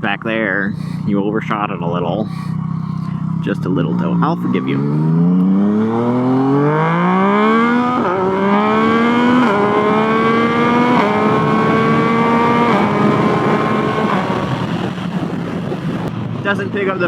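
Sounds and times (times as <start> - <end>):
motorcycle engine accelerating: 0.0 - 16.5.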